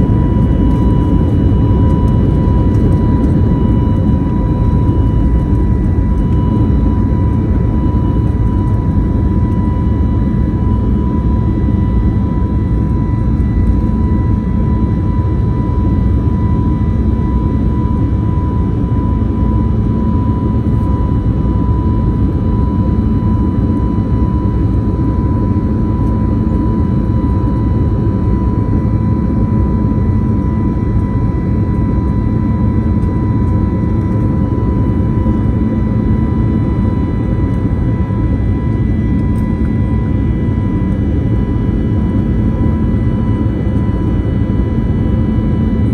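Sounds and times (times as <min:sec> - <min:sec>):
jet engine cabin rumble: 0:00.0 - 0:45.9.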